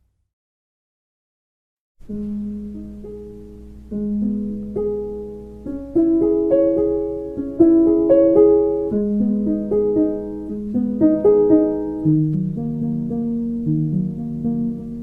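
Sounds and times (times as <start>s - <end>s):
slow arpeggiated piano: 2.0s - 15.0s.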